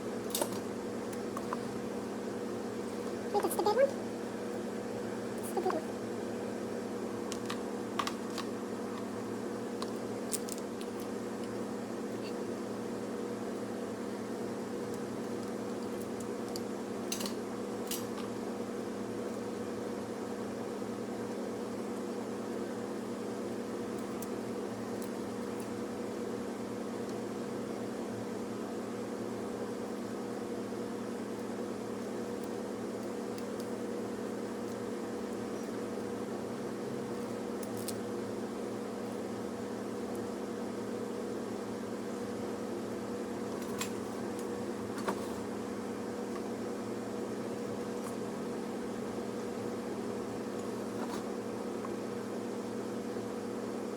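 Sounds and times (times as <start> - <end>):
fan motor humming: 0.0 - 53.9.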